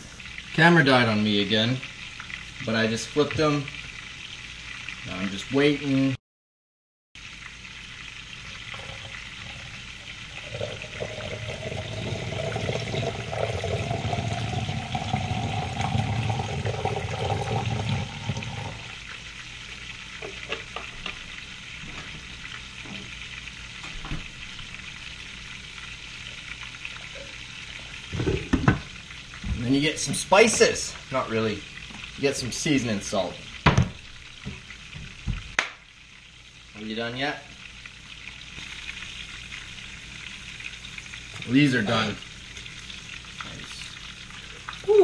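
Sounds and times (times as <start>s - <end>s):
fish deep-frying in oil: 0.0s - 6.2s, 7.2s - 45.0s.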